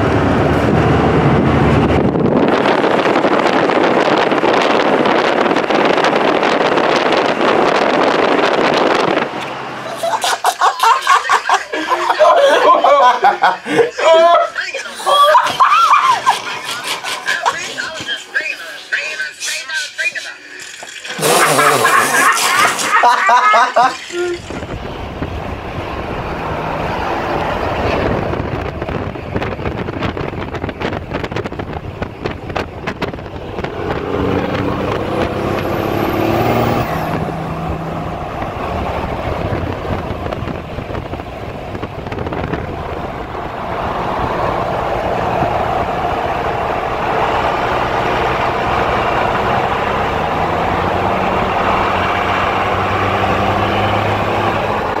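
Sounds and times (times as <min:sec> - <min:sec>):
diesel truck engine: 0:00.0 - 0:55.0
road and wind noise: 0:00.0 - 0:55.0.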